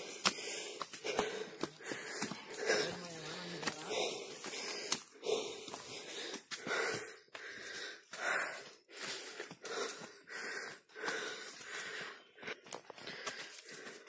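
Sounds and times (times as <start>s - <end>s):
person panting heavily: 0.0s - 14.0s.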